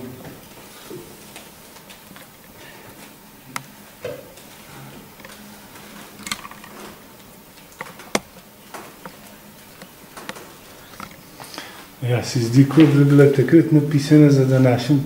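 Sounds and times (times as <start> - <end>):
faint steady hum and hiss: 0.0 - 15.0.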